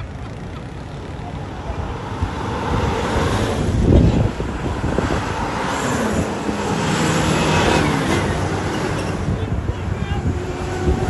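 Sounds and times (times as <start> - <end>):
vehicles driving past: 0.0 - 11.0
wind buffeting microphone: 0.0 - 11.0.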